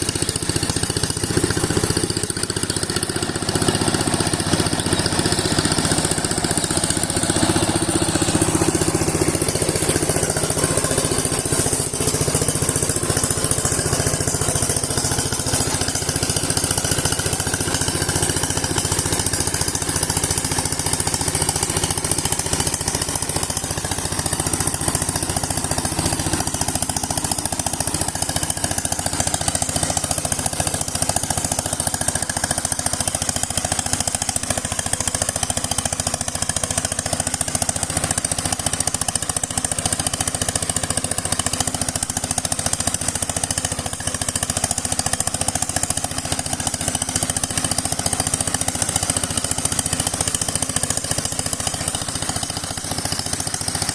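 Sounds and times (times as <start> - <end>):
power tiller diesel engine running: 0.0 - 53.9.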